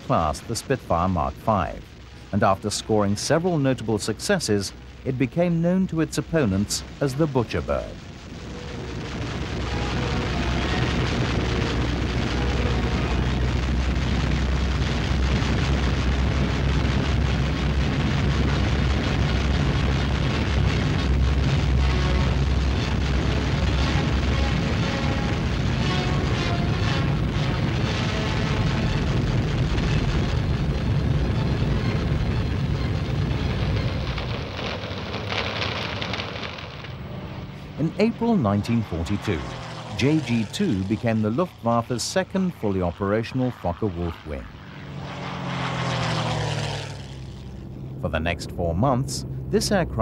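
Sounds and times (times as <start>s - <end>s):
crackling hiss: 0.0s - 48.0s
piston aircraft engine roar: 0.0s - 50.0s.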